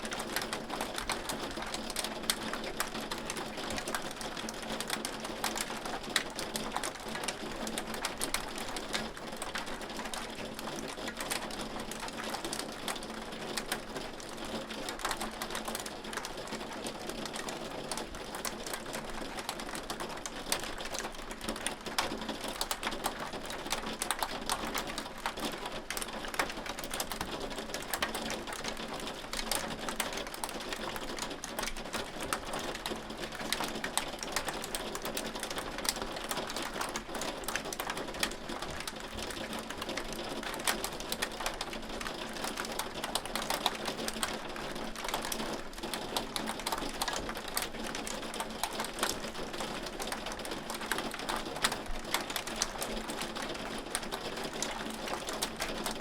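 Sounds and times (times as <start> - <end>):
hail pattering on hard surfaces: 0.1 - 56.0.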